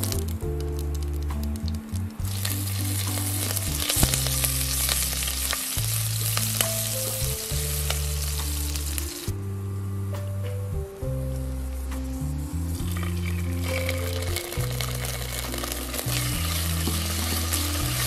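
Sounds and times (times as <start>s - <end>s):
spices sizzling in hot oil: 0.0s - 9.4s, 11.4s - 18.0s.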